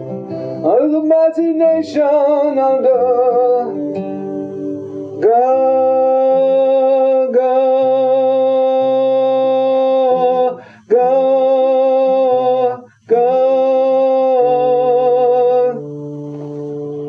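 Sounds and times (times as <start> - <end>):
singer holding wordless notes: 0.0 - 17.0.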